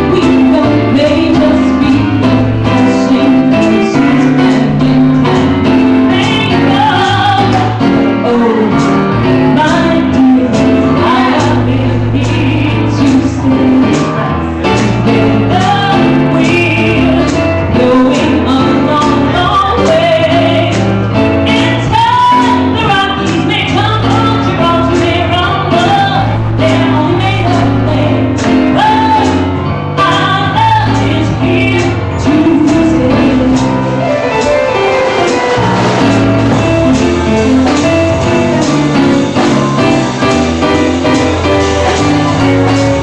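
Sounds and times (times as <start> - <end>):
bass: 0.0 - 43.0
drums keeping steady beat: 0.0 - 43.0
keyboard: 0.0 - 43.0
person singing jazz: 0.0 - 43.0.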